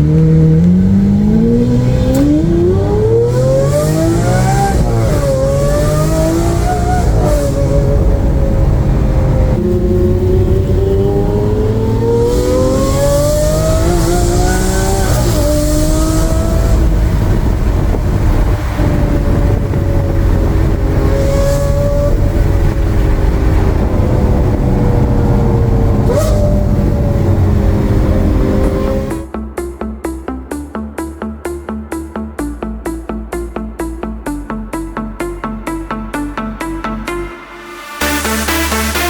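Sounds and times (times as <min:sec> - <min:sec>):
sports car engine driving: 0:00.0 - 0:39.0.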